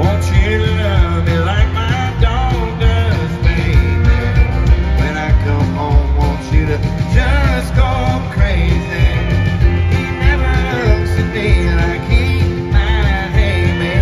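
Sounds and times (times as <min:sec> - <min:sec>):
live country band with vocals: 0:00.0 - 0:14.0.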